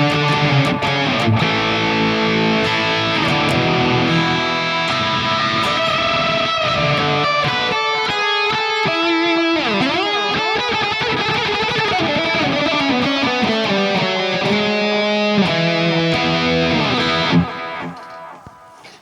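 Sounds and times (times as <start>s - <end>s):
electric guitar playing: 0.0s - 18.8s.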